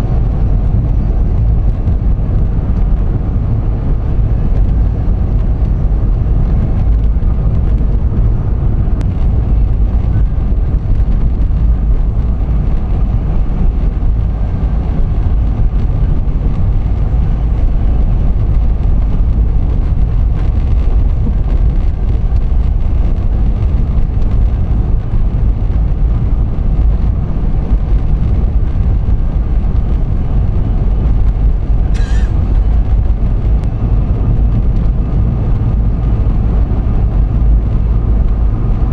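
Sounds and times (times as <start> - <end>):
vehicle road and engine noise: 0.0 - 38.9.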